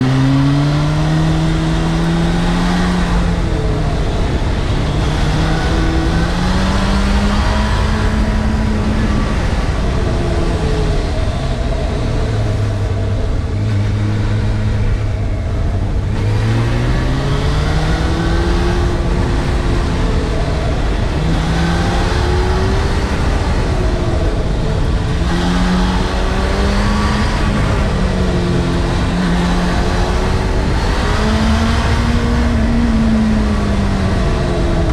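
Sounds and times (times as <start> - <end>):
motorcycle engine revving: 0.0 - 34.9
wind rush: 0.0 - 34.9.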